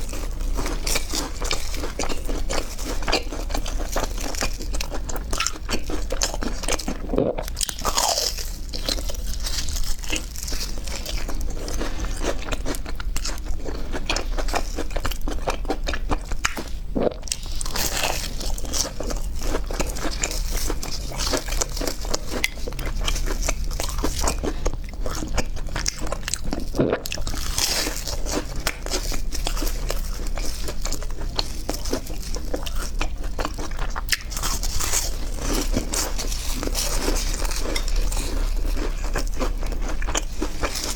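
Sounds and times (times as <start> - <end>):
crunching and chewing crispy food: 0.0 - 40.9.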